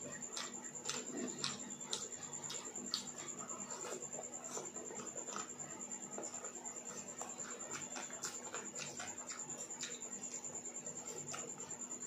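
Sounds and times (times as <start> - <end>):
wet chewing and lip smacks: 0.0 - 11.8
fingers mixing rice on plate: 0.0 - 12.0.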